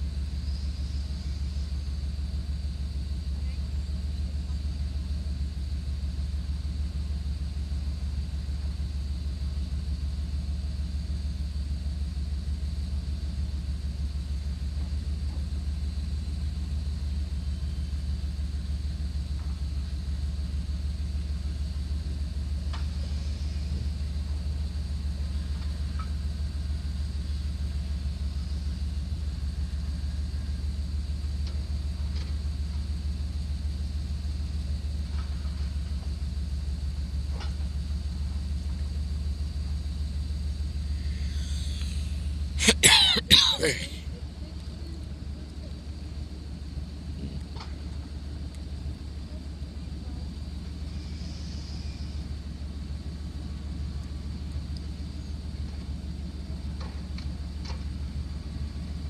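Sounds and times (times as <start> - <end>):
engine rumbling steadily: 0.0 - 59.0.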